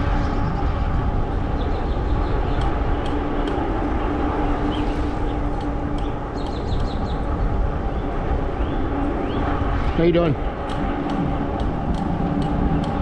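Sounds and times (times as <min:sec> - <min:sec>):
bike tyre noise on trail: 0:00.0 - 0:13.0
birds chirping: 0:00.0 - 0:13.0
steady hum: 0:00.0 - 0:13.0
wind on microphone: 0:00.0 - 0:13.0.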